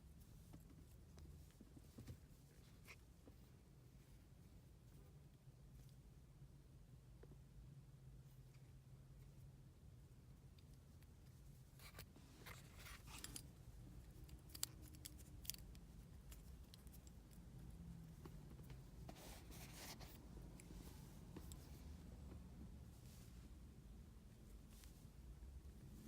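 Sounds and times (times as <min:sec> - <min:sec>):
room hum: 0:00.0 - 0:26.0.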